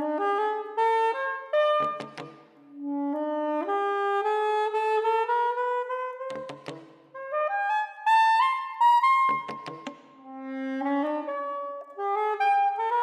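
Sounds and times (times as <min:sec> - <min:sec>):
soprano saxophone line: 0:00.0 - 0:13.0.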